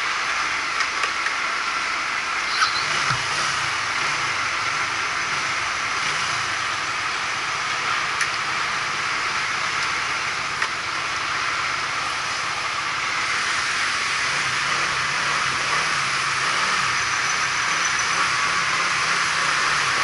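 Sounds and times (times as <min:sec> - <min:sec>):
low engine hum: 0:00.0 - 0:20.0
hissing mechanical noise: 0:00.1 - 0:20.0.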